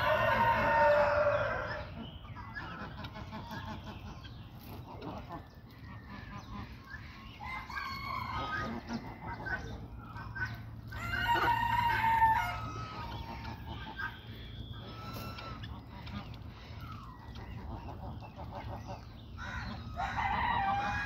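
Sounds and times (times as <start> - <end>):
peafowl calling: 0.0 - 21.0.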